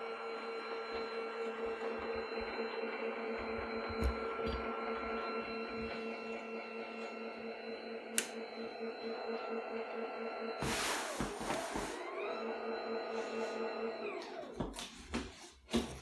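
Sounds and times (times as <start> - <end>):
electric lift motor humming: 0.0 - 15.1.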